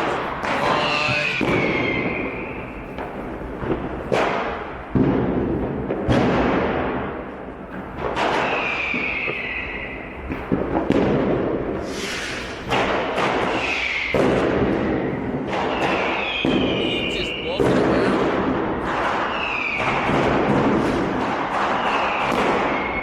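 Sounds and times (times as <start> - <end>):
firecracker bangs: 0.0 - 23.0
whistling fireworks: 0.0 - 23.0.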